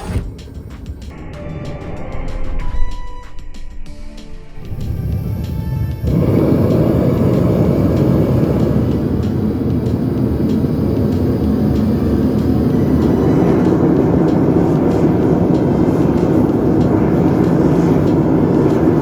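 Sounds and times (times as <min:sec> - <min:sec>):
furnace burner rushing: 0:00.0 - 0:01.1, 0:04.6 - 0:19.0.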